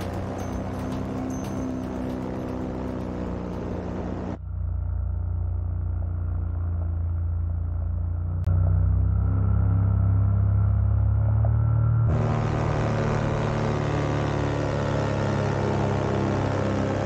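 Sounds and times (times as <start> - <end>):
paramotor engine drone: 0.0 - 17.0.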